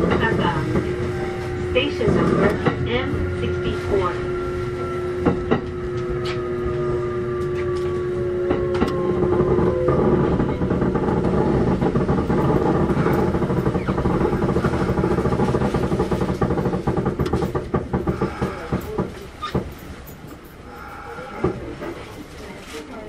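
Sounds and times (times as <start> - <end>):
electric train motor whine: 0.0 - 19.1
wheel and rail clatter: 0.0 - 23.0.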